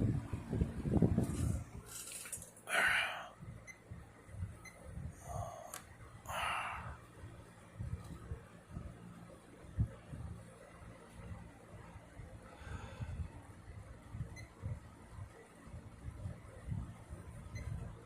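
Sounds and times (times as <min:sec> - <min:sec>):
box fan motor hum: 0:00.0 - 0:18.0.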